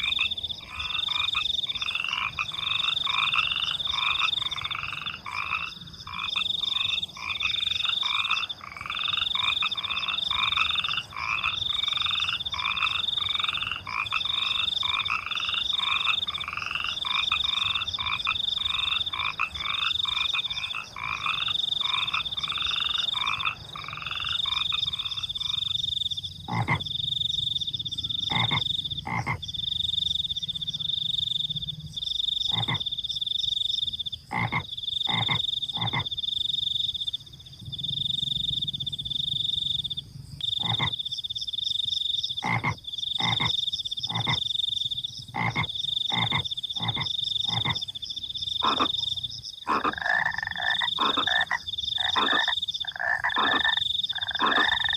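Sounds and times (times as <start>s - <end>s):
cricket trill: 0.0s - 54.9s
frogs croaking: 0.0s - 54.9s.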